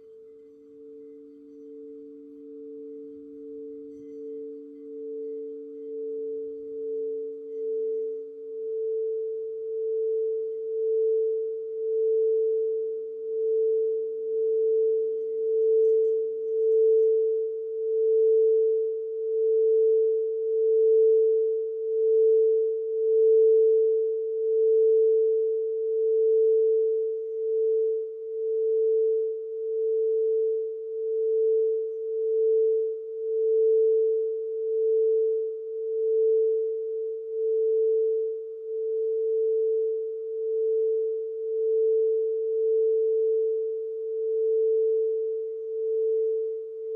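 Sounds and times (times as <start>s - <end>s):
singing bowl ringing: 0.0s - 46.9s.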